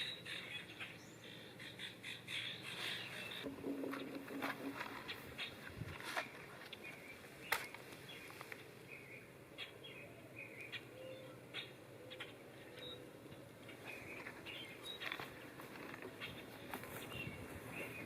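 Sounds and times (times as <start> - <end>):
bird chirps: 0.0 - 4.0, 4.9 - 18.0.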